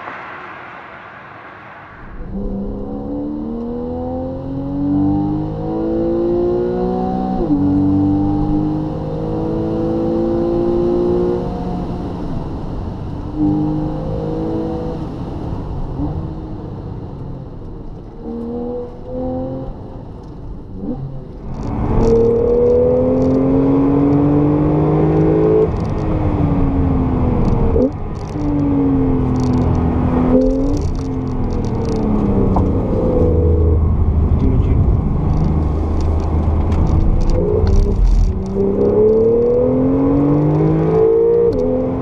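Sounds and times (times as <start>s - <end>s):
car engine accelerating through gears: 0.0s - 12.1s, 18.0s - 20.0s, 20.7s - 42.0s.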